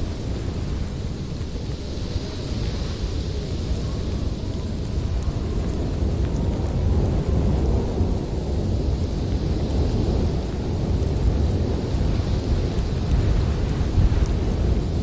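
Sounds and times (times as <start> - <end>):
blizzard wind blowing hard: 0.0 - 15.0.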